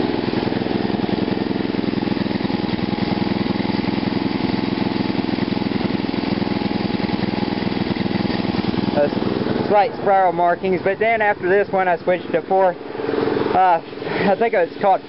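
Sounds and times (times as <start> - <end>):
small engine running steadily: 0.0 - 15.0.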